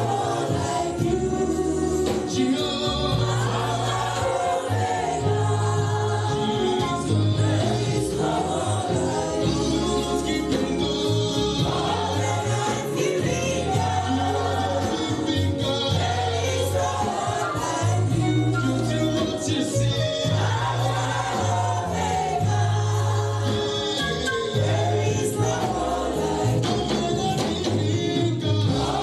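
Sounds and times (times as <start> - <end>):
steady bass line: 0.0 - 29.0
voices singing gospel music: 0.0 - 29.0.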